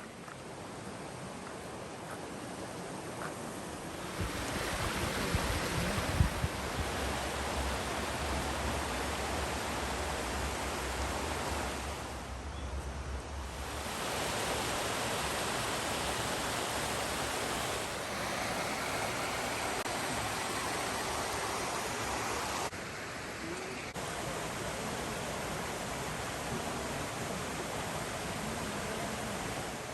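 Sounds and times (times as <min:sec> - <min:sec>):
water rushing: 0:00.0 - 0:29.9.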